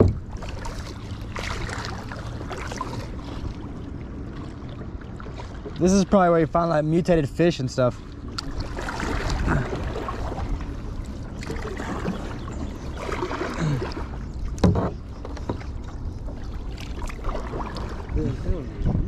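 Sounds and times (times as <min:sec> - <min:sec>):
paddle pulling through water: 0:00.0 - 0:19.0.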